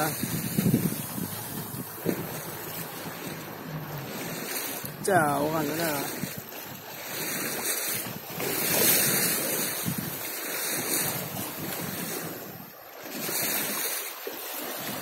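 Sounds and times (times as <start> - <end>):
sea water splashing: 0.0 - 15.0
wind buffeting microphone: 0.0 - 15.0.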